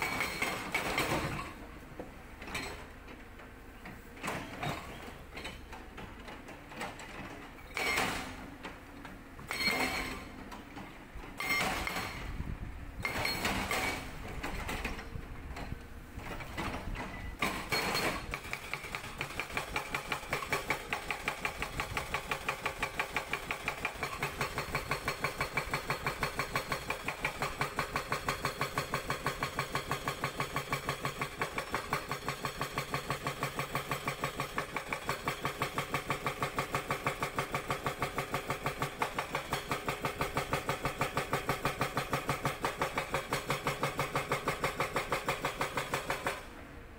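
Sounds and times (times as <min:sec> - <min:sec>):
hydraulic breaker hammering rock: 0:00.0 - 0:01.6, 0:04.2 - 0:08.8, 0:09.4 - 0:15.2, 0:16.2 - 0:46.6.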